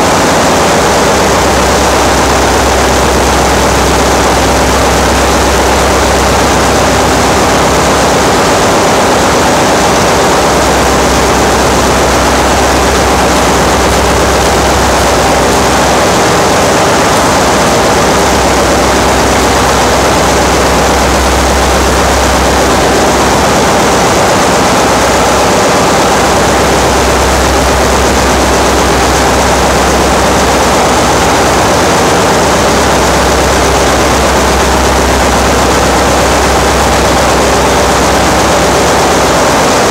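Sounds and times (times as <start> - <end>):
ship engine room machinery: 0.0 - 39.9.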